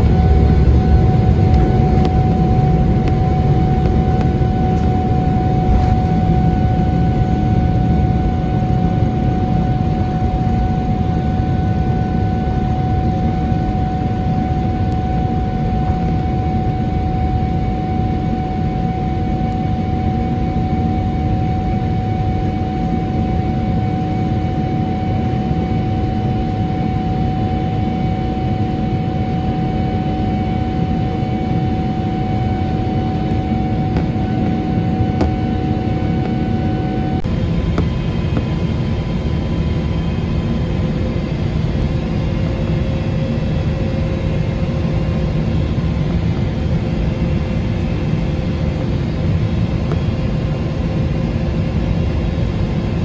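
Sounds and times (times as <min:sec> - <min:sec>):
jet engine roar: 0:00.0 - 0:53.0
jet engine whine: 0:00.0 - 0:53.0.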